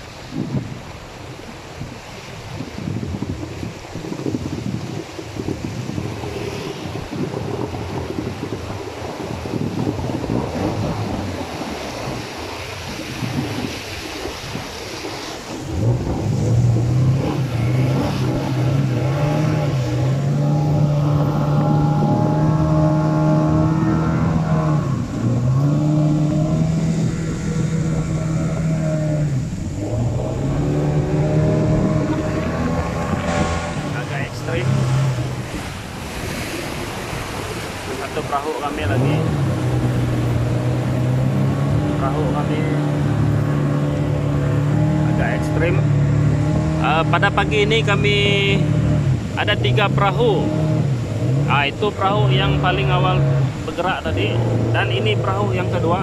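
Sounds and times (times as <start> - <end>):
boat engine: 0.0 - 56.0
rushing rapids water: 0.0 - 56.0
wind on microphone: 0.0 - 56.0.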